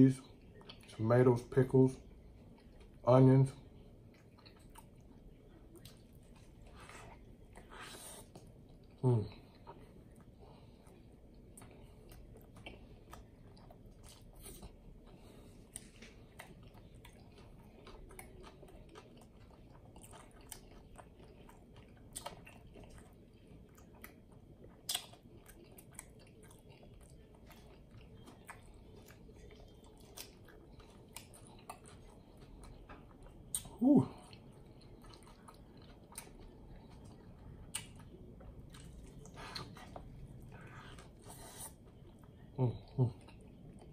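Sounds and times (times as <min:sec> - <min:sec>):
person chewing with mouth clicks: 0:04.0 - 0:43.9.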